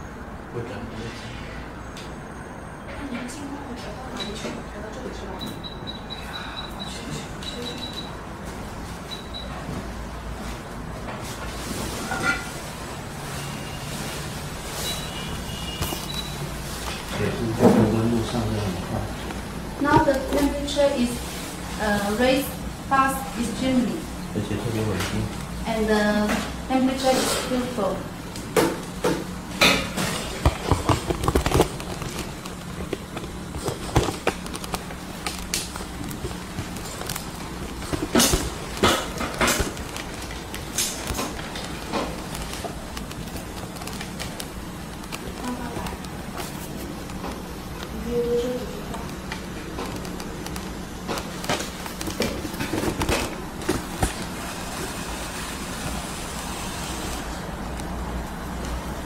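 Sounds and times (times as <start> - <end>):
hot-air station hum and hiss: 0.0 - 59.0.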